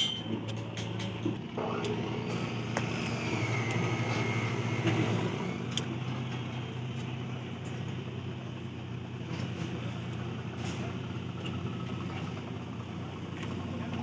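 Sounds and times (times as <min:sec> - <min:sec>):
machinery engine hum: 0:00.0 - 0:14.0.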